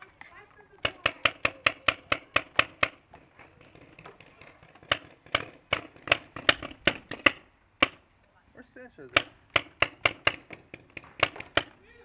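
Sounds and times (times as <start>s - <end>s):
paintball marker firing: 0.2s - 8.1s, 9.1s - 11.8s.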